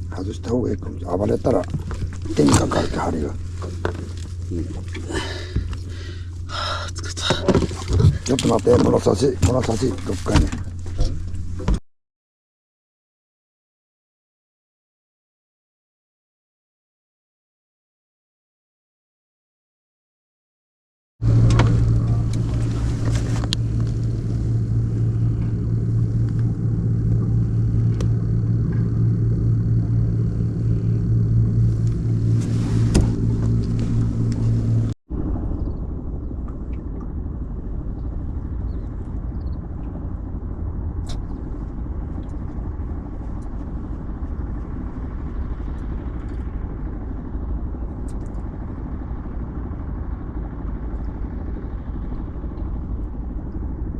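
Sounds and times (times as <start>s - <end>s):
boat engine running: 0.0s - 11.8s, 21.2s - 53.9s.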